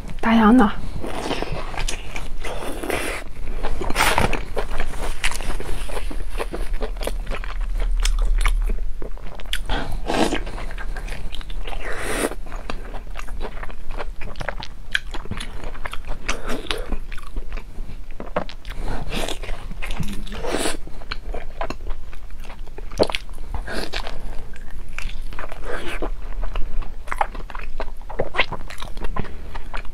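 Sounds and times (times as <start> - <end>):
biting and chewing food: 0.9 - 29.9.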